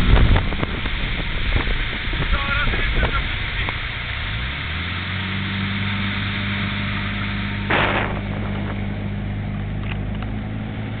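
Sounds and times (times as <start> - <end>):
motorboat engine running: 0.0 - 11.0
rushing water and wind: 0.0 - 11.0.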